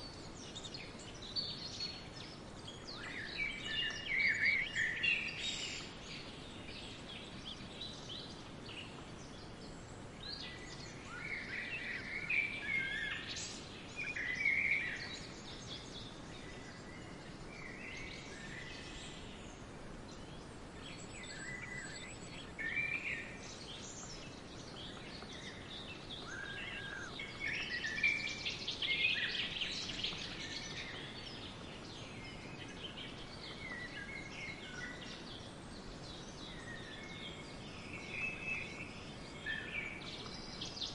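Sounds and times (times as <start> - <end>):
faint background hiss: 0.0 - 40.9
wild birds singing and chirping: 0.0 - 40.9.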